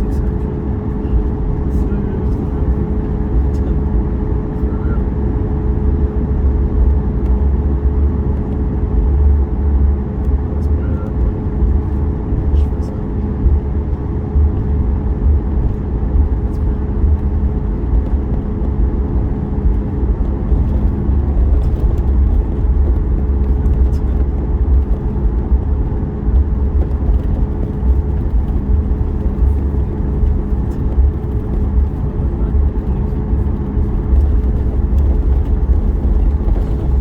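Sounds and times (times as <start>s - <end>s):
airplane engines at taxi power: 0.0s - 37.0s.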